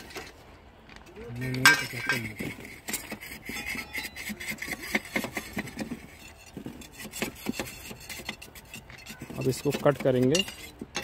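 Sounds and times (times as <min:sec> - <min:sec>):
steel bars scraping and clinking: 0:00.0 - 0:00.4, 0:01.2 - 0:11.0.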